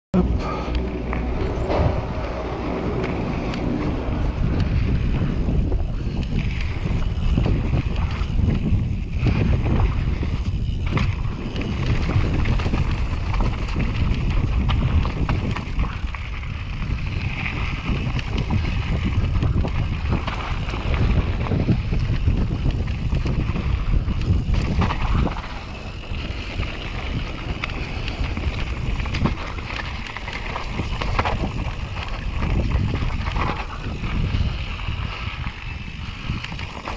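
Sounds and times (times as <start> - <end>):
bike rattling over bumps: 0.2 - 36.9
wind buffeting microphone: 0.2 - 36.9
tyres rolling over loose stones: 1.6 - 36.9.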